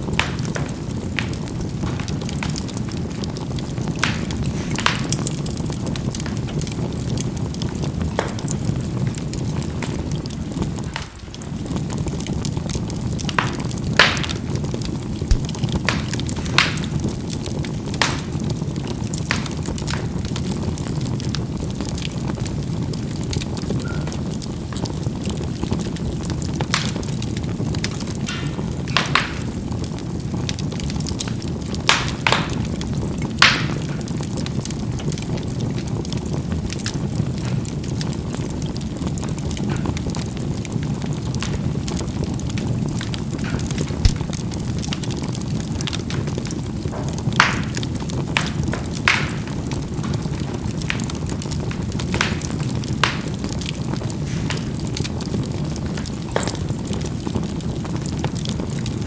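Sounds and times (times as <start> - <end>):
charcoal crackles and pops: 0.0 - 59.0
low rush of fire: 0.0 - 59.0.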